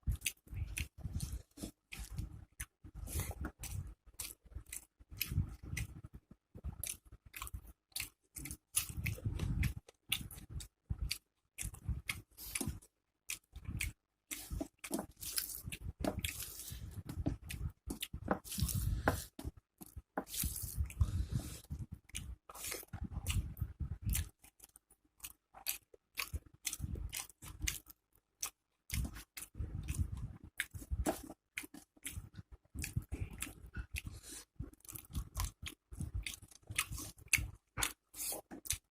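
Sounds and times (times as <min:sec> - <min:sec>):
person chewing food: 0:00.0 - 0:38.9
crunching while eating: 0:06.6 - 0:38.9.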